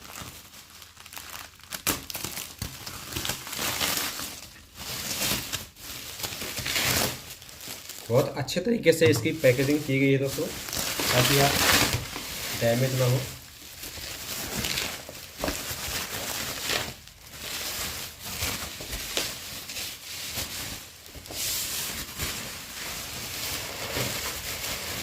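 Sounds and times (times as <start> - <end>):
packaging crinkling: 0.0 - 25.0.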